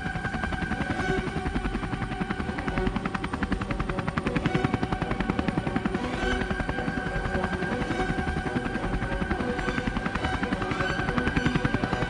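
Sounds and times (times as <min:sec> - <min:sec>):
helicopter engine whine: 0:00.0 - 0:12.0
helicopter rotor blades chopping: 0:00.0 - 0:12.0.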